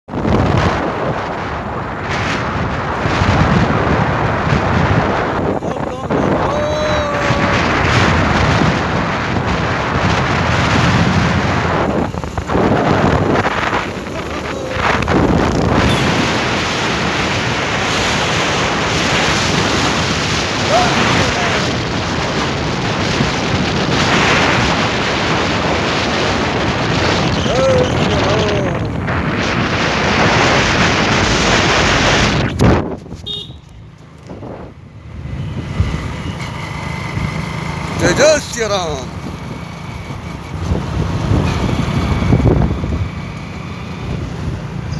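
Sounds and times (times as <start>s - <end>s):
wind buffeting microphone: 0.1s - 44.9s.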